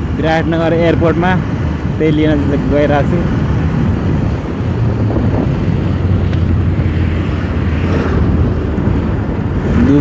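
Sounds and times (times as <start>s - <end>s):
vehicle driving drone: 0.0s - 10.0s
wind buffeting microphone: 0.0s - 10.0s.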